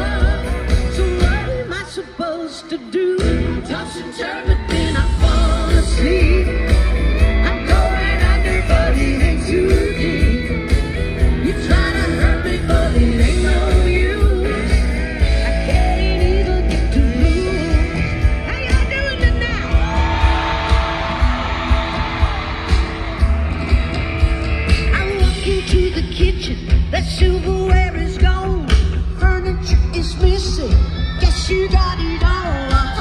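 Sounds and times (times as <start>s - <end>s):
woman singing into microphone: 0.0s - 10.6s, 11.4s - 20.2s, 24.9s - 33.0s
live country band playing: 0.0s - 33.0s.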